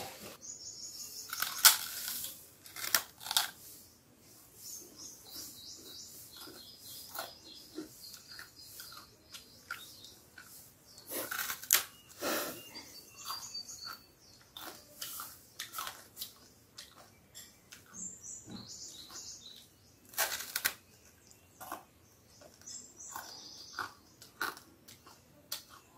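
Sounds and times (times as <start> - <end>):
crunching and chewing candy: 1.2 - 3.6, 5.3 - 18.0, 18.9 - 25.9.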